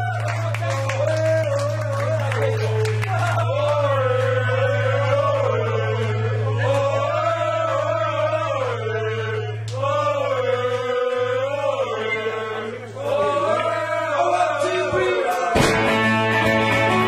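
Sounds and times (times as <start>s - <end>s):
voices singing chant-like chorus: 0.0s - 17.0s.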